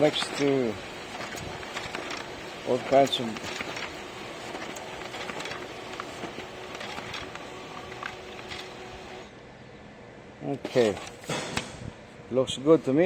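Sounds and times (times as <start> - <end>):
laser printer whirring: 0.0 - 9.3, 10.6 - 11.7.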